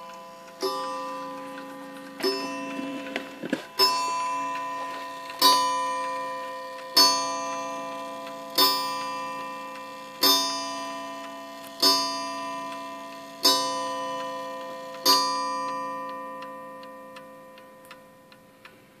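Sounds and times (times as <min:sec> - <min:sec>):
clock striking a wire gong: 0:00.0 - 0:18.5
clock ticking: 0:00.0 - 0:18.8.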